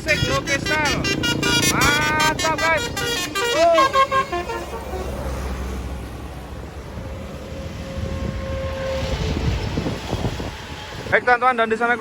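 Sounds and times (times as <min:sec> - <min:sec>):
wind buffeting microphone: 0:00.0 - 0:11.4
passing road traffic rumble: 0:00.0 - 0:12.0.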